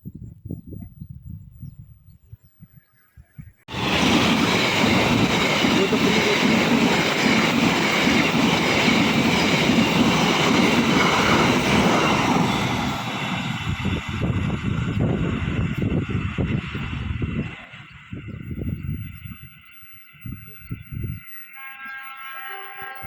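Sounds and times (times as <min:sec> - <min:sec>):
train wheels rumbling on rails: 0:03.7 - 0:23.0.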